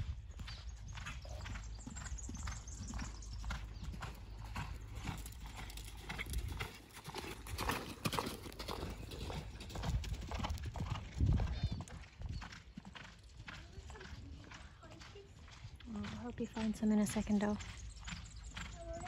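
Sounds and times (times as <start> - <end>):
hoofbeats on sand: 0.0 - 19.0.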